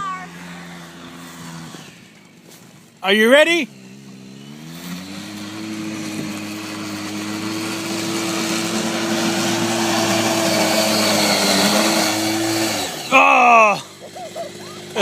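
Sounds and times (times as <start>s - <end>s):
small snowmobile engine running: 0.0s - 15.0s.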